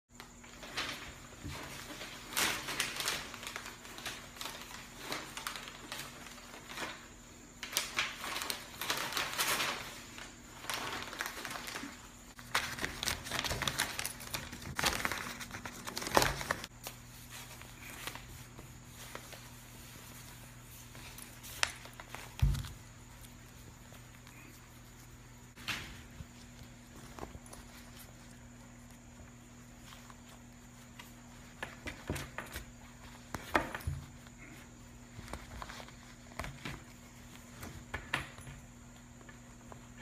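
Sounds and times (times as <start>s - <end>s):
newspaper pages crinkling: 0.2s - 38.0s.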